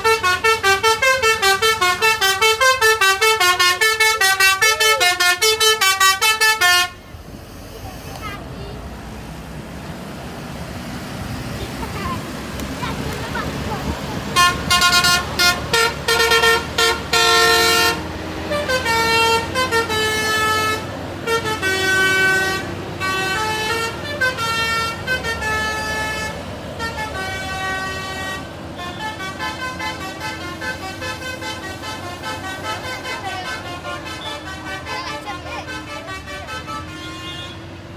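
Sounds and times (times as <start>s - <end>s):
bus musical horn playing a tune: 0.0s - 7.1s, 13.8s - 37.9s.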